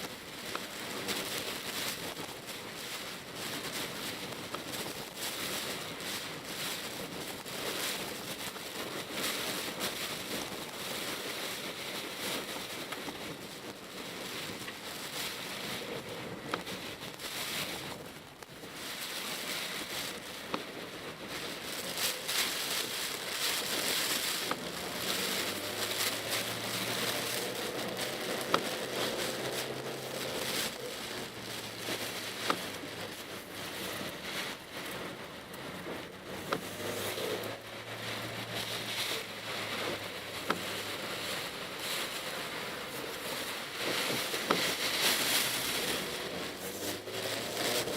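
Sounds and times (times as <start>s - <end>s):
rain on car roof: 0.0s - 47.9s
tyres hissing on wet road: 0.0s - 47.9s.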